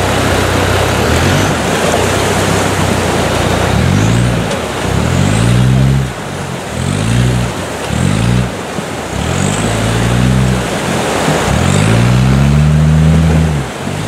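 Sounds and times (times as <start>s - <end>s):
diesel engine revving: 0.0s - 14.0s
white water roaring: 0.0s - 14.0s.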